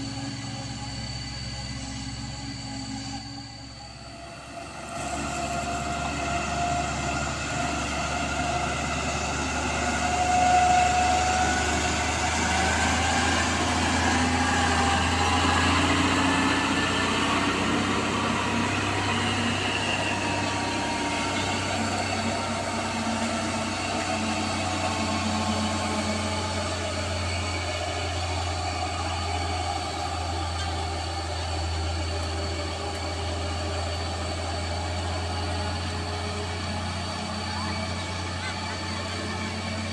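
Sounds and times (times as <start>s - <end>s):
diesel truck engines under load: 0.0s - 39.9s.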